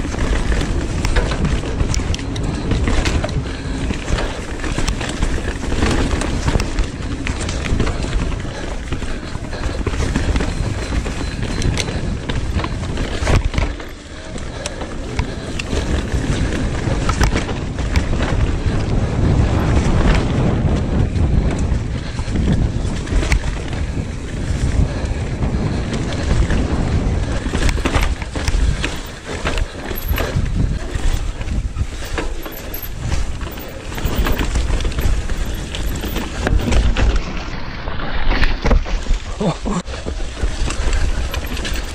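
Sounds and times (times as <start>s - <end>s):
bike clicks and rattles: 0.0s - 41.9s
bike tyres rolling on dirt: 0.0s - 41.9s
wind buffeting microphone: 0.0s - 41.9s.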